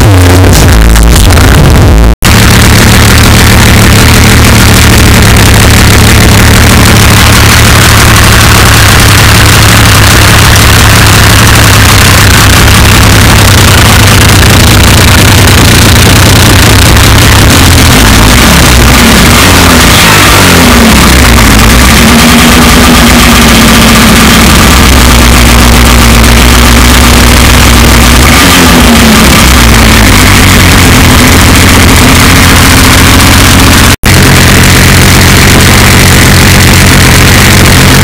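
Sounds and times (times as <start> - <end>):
snowmobile engine revving: 0.0 - 38.0.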